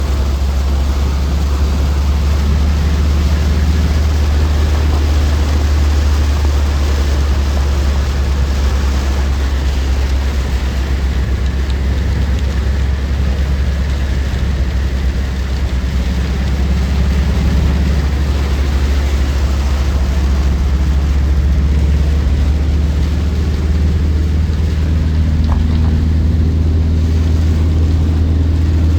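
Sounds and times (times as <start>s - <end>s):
vehicle engine and road rumble: 0.0s - 28.9s.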